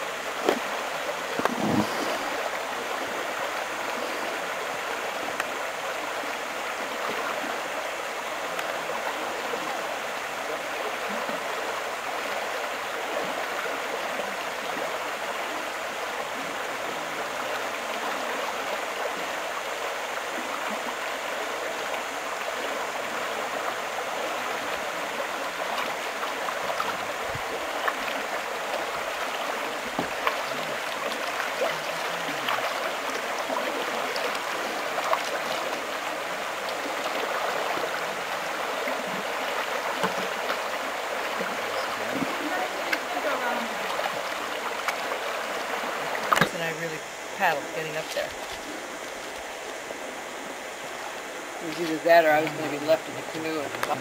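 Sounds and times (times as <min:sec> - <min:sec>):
water rushing over rapids: 0:00.0 - 0:54.0.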